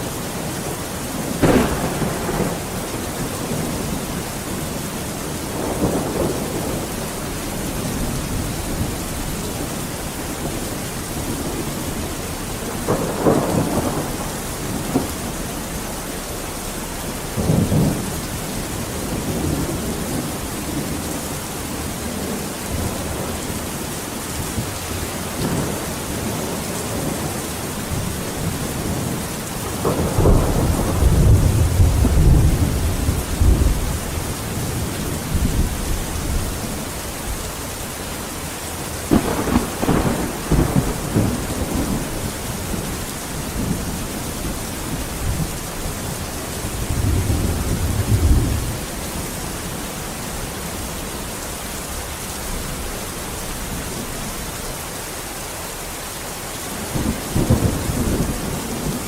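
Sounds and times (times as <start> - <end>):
thunder rumbling: 0.0 - 50.9, 56.8 - 59.0
heavy rain: 0.0 - 59.0.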